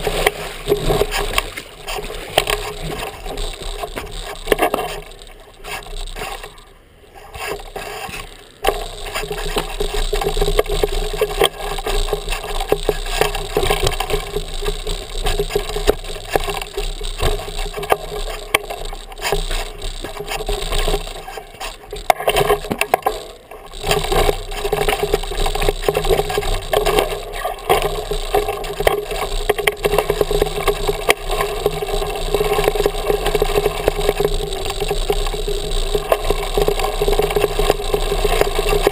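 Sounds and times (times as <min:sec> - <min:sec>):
bike rattling and knocking: 0:00.0 - 0:38.9
bike tyres crunching on rock: 0:00.0 - 0:38.9.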